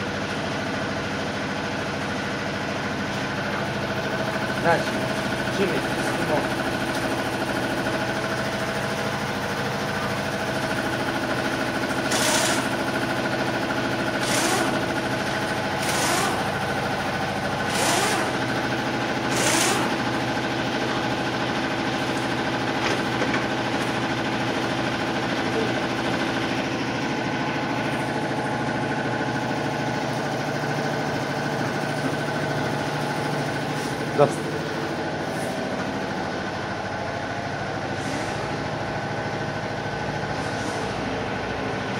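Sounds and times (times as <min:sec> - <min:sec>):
motor humming: 0:03.1 - 0:37.0.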